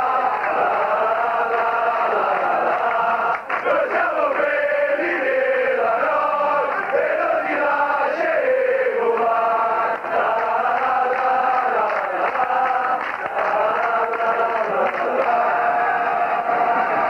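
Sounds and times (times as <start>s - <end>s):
crowd chanting: 0.0s - 17.0s.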